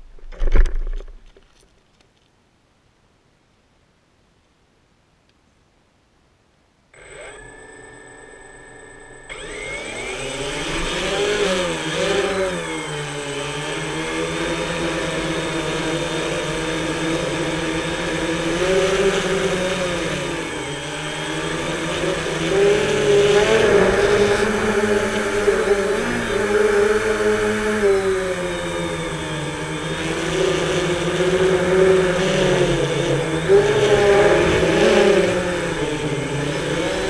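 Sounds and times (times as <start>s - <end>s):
drone motors whining: 7.0s - 37.0s.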